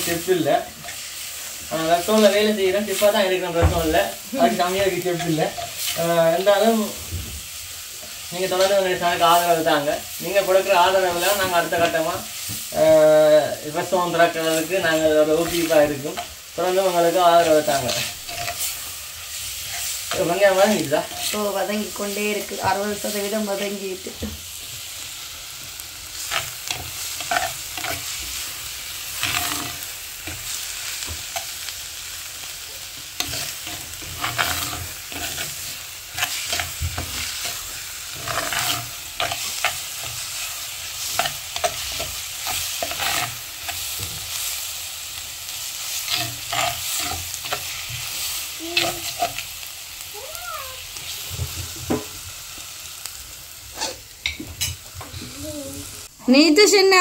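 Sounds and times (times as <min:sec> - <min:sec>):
onions sizzling in pot: 0:00.0 - 0:57.0.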